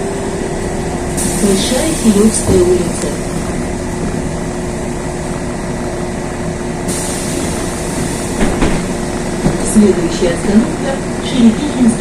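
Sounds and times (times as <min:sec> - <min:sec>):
bus engine drone and rumble: 0:00.0 - 0:12.0.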